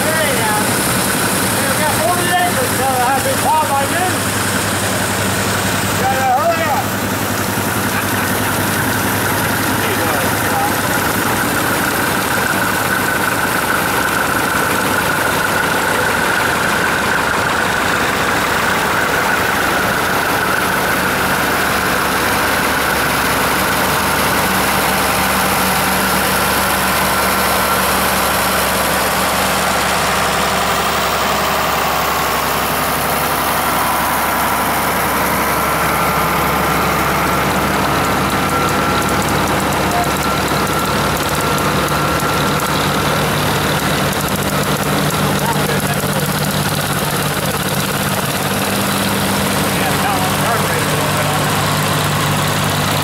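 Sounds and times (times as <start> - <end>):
tractor engines driving past: 0.0 - 53.0.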